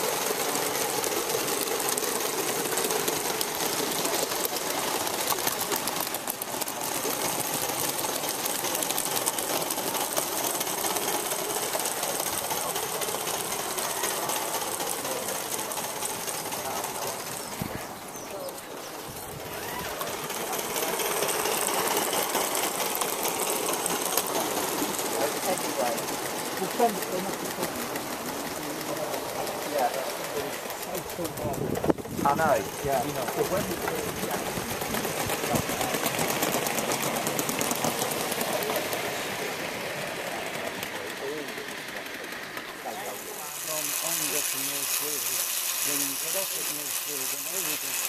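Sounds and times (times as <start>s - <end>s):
model steam locomotive exhaust beating: 0.0s - 48.0s.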